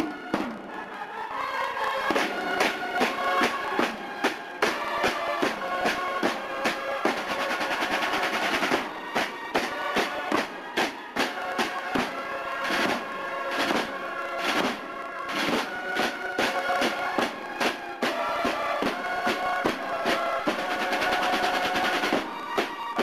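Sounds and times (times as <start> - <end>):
snare and bass drums beating: 0.0 - 0.7, 2.1 - 23.0
bugles playing a march: 0.0 - 23.0.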